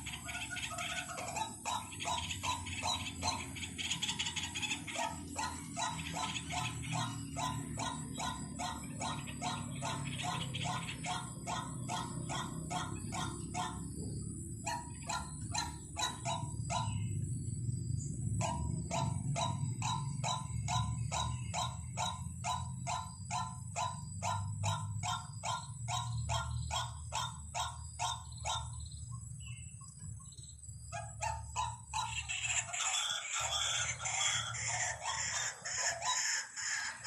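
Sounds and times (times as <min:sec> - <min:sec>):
bird harsh repeated calls: 0:00.0 - 0:17.3, 0:18.0 - 0:37.0
steady low hum: 0:00.0 - 0:37.0.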